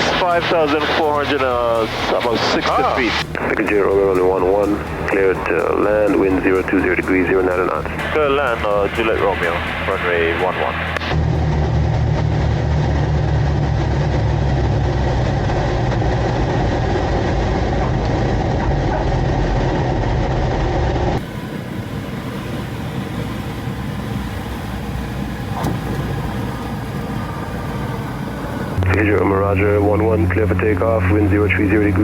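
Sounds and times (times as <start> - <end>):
piston aircraft engines from cabin: 0.0 - 32.0.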